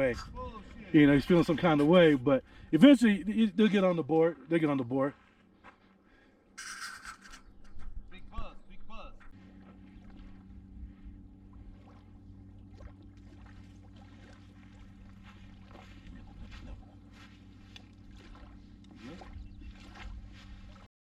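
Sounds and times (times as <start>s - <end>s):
motor droning: 0.0s - 20.9s.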